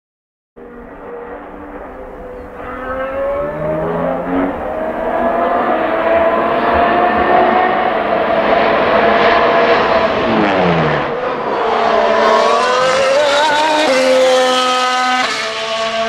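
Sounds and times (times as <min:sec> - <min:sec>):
race car engine at high revs: 0:00.6 - 0:16.0.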